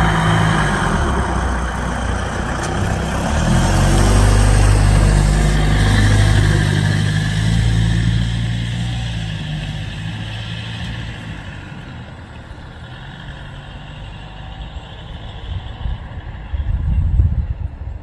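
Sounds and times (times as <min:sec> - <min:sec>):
vehicle engine running: 0:00.0 - 0:17.6.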